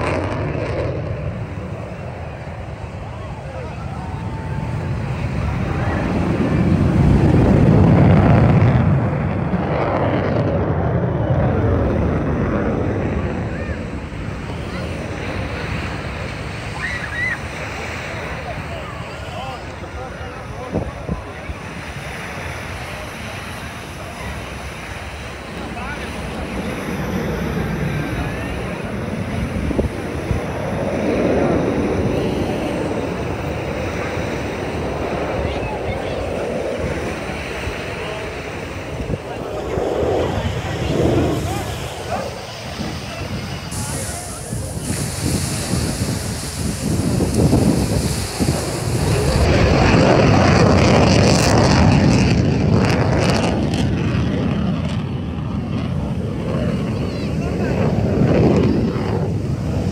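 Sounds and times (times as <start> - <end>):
jet engines passing overhead: 0.0 - 59.9.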